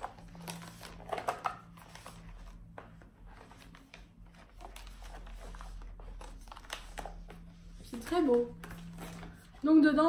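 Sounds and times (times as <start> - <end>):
cardboard pages turning: 0.0 - 9.6.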